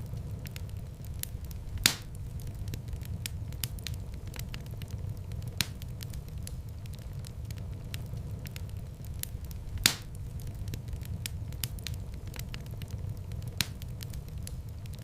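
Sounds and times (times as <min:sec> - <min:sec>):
sharp pops of burning wood: 0:00.0 - 0:15.0
wood fire crackling: 0:00.0 - 0:15.0.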